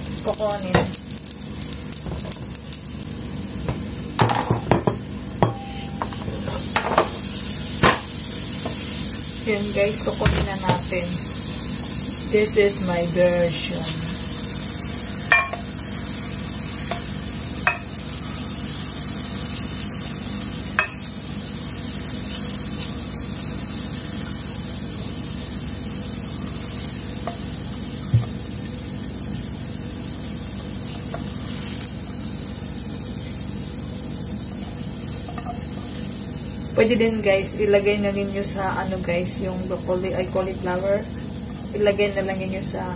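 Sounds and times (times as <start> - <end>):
food sizzling in a frying pan: 0.0 - 42.9.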